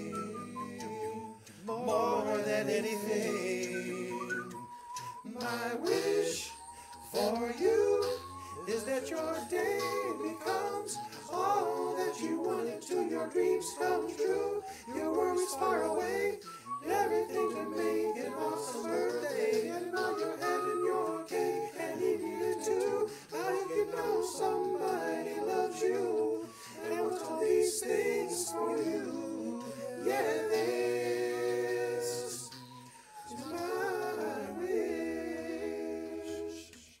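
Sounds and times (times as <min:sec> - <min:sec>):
man singing a cappella harmonies: 0:00.0 - 0:32.6, 0:33.3 - 0:37.0.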